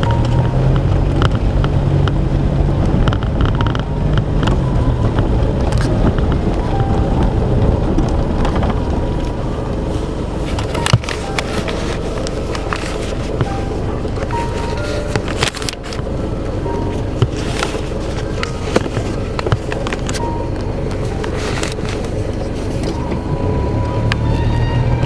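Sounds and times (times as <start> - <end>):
vehicle engine and road hum: 0.0 - 25.0.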